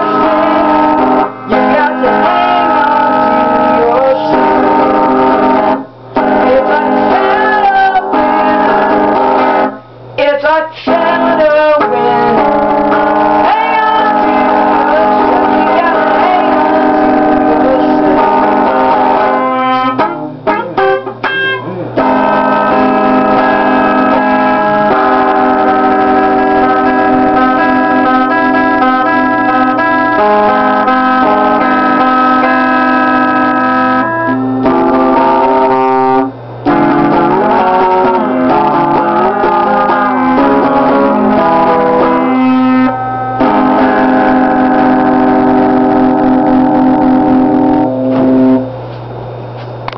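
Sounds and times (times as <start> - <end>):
guitar and keyboard music: 0.0 - 48.9.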